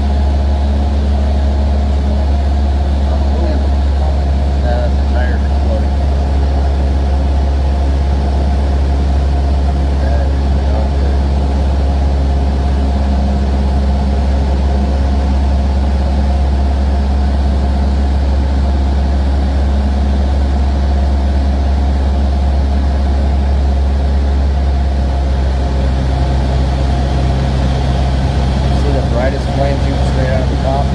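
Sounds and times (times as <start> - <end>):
aircraft engine hum: 0.0 - 30.9.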